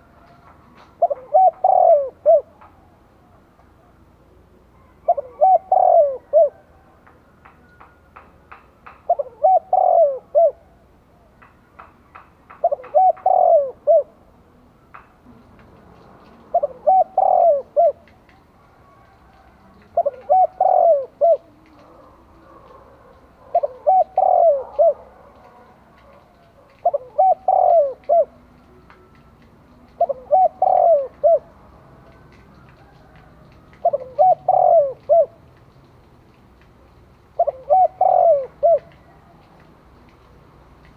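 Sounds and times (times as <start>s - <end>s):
dove cooing: 0.0s - 4.0s, 4.7s - 7.9s, 8.9s - 10.8s, 11.8s - 14.3s, 16.0s - 35.5s, 36.8s - 39.7s.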